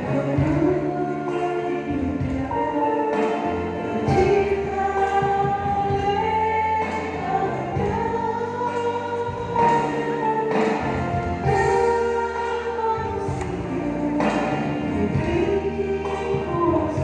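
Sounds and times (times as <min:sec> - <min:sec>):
accompanying music: 0:00.0 - 0:17.0
choir singing a hymn: 0:00.0 - 0:17.0.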